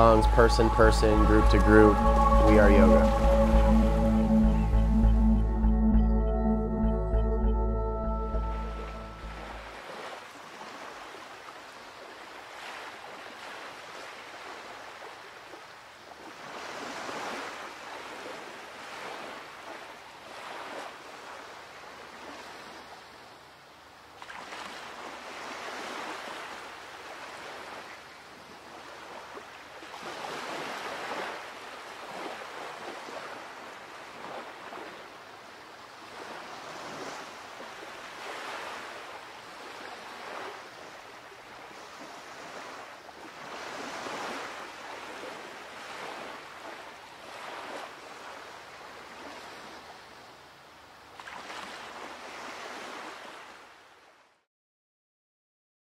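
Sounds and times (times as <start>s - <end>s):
waves washing in and out: 0.0s - 54.4s.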